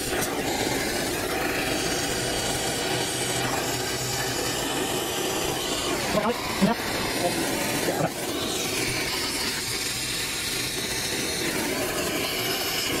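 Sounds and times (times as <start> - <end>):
brazing torch burning: 0.0 - 13.0.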